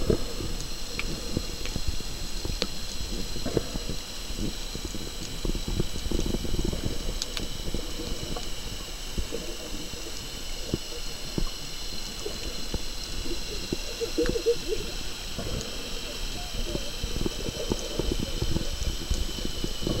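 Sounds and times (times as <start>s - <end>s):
faint high whine: 0.0s - 20.0s
water sloshing underwater: 0.0s - 20.0s.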